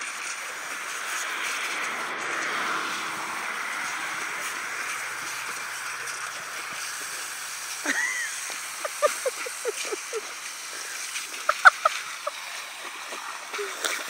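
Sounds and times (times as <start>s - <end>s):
hose hiss: 0.0s - 14.0s.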